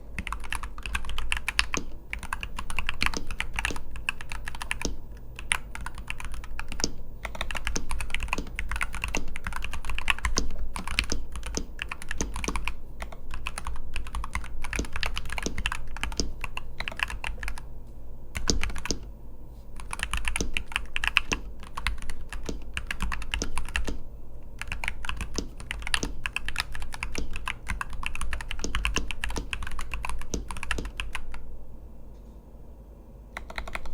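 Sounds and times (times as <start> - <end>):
mechanical keyboard typing: 0.2 - 17.7, 18.3 - 19.1, 19.8 - 31.5, 33.4 - 33.9.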